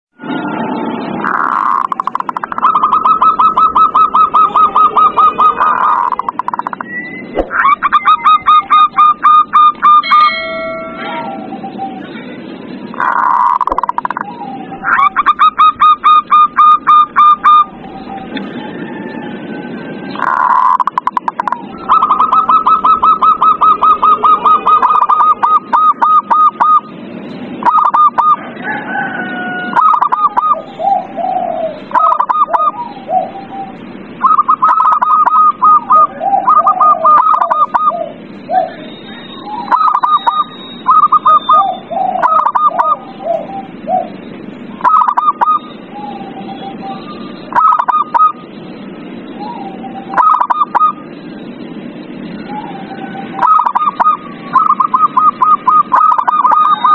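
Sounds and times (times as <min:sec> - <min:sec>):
doves cooing: 0:01.2 - 0:10.4, 0:12.9 - 0:26.9, 0:27.6 - 0:56.9.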